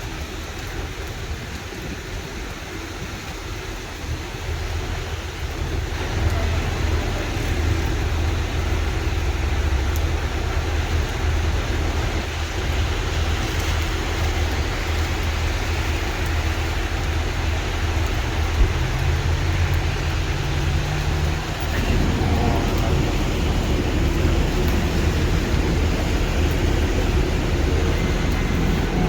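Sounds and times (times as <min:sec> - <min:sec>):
traffic hiss on wet road: 0:00.0 - 0:29.0
low engine hum: 0:04.0 - 0:29.0.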